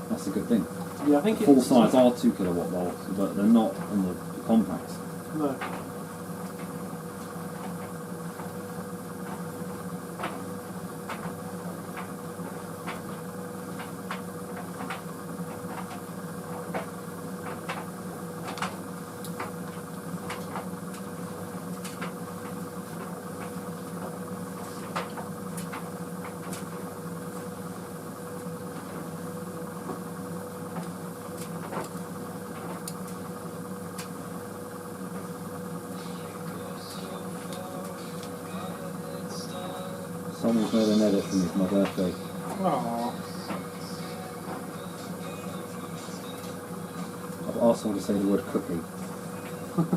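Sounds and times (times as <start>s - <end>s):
tumble dryer motor humming: 0.0s - 49.9s.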